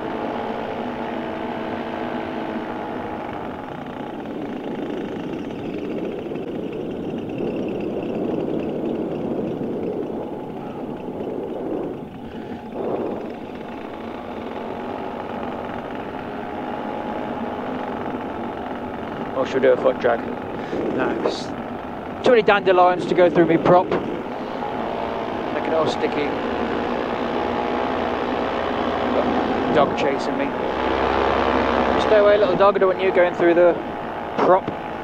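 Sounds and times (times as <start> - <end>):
paramotor engine and propeller: 0.0 - 35.0.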